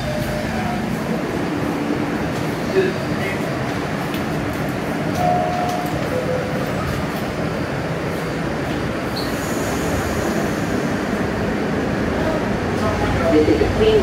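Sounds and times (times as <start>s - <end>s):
subway train rumbling: 0.0s - 14.0s.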